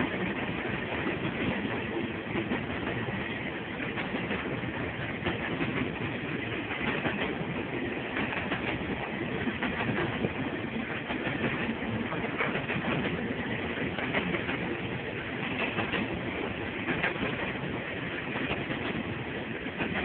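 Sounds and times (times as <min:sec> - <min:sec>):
rumble of train wheels on rail: 0:00.0 - 0:20.0
wheels clicking over rail joints: 0:00.0 - 0:20.0.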